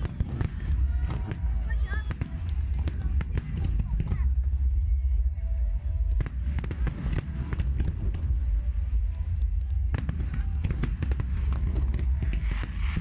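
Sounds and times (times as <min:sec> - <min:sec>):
fireworks bangs and crackles: 0:00.0 - 0:05.0, 0:06.0 - 0:13.0
constant low rumble: 0:00.0 - 0:13.0.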